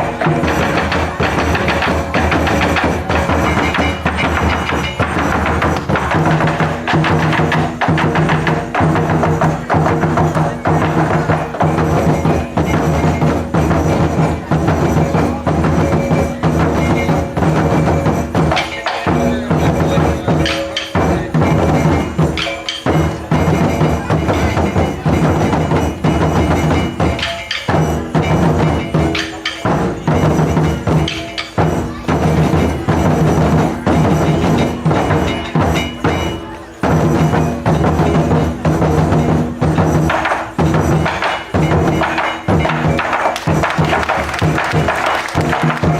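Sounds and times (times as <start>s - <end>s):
drum and wood block percussion: 0.0s - 45.9s.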